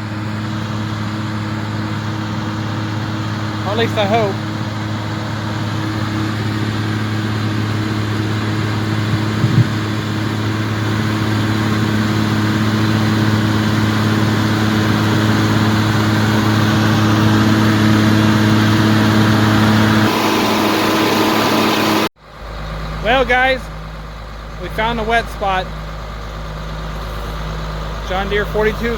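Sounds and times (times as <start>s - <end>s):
loud rough noise: 0.0s - 23.8s
tractor diesel engine running: 0.0s - 28.9s.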